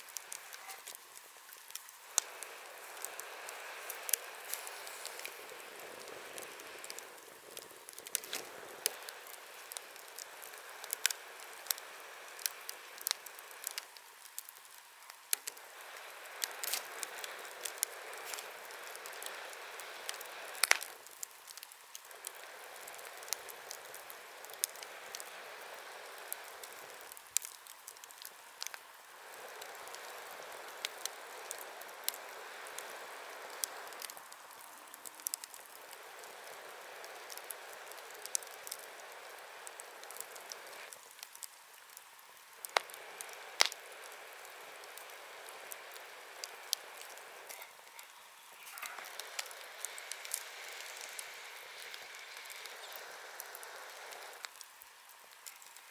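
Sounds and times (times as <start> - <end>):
bonfire crackling: 0.0 - 55.9
hiss of burning: 0.0 - 55.9
sharp pops and snaps: 0.0 - 55.9.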